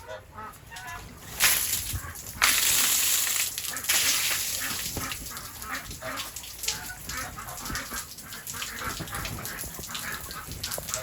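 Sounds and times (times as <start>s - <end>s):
ducks quacking: 0.0s - 2.9s, 3.6s - 11.0s.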